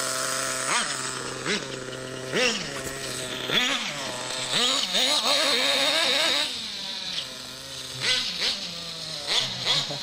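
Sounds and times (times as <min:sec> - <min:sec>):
model truck engine revving: 0:00.0 - 0:10.0.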